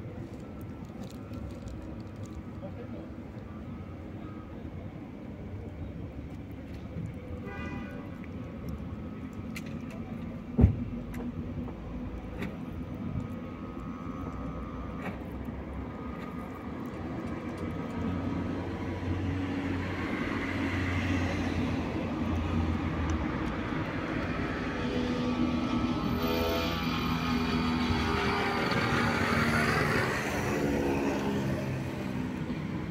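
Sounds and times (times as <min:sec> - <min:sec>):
vehicle engine rumbling: 0:00.0 - 0:32.9.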